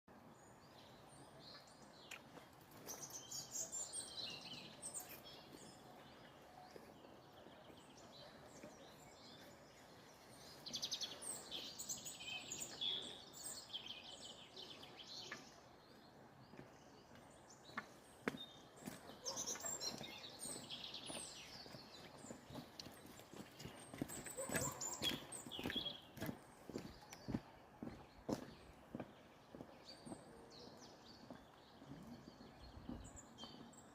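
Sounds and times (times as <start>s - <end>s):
songbirds chirping and singing: 0.1s - 33.9s.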